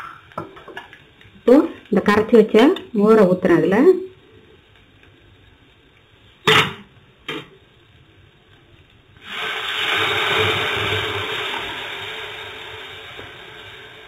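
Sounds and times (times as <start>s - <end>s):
liquid sizzling in hot oil: 0.0s - 14.0s.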